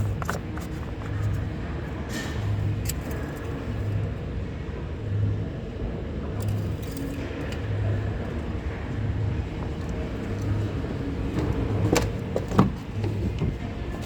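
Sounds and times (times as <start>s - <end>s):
engine humming on test: 0.0s - 14.0s.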